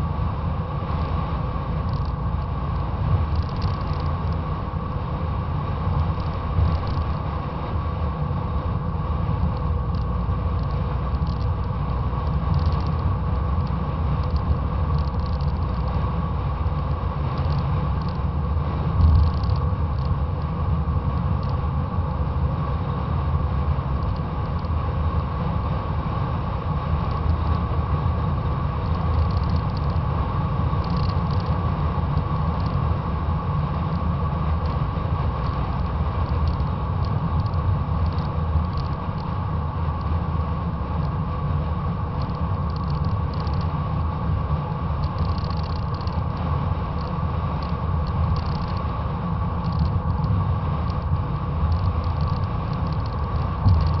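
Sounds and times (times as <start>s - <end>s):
road noise: 0.0s - 54.0s
wind rumble on microphone: 0.0s - 54.0s.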